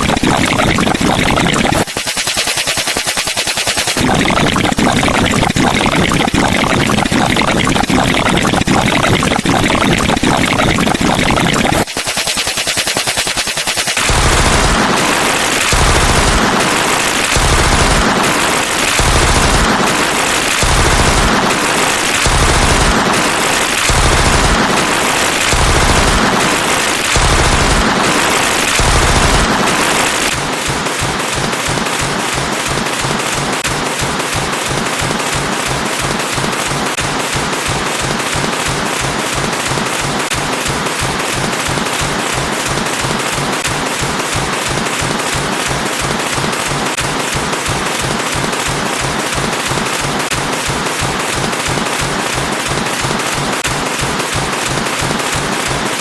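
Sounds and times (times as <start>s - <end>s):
harsh distorted noise pulsing: 0.0s - 56.0s
rattling stream of clicks: 0.0s - 56.0s.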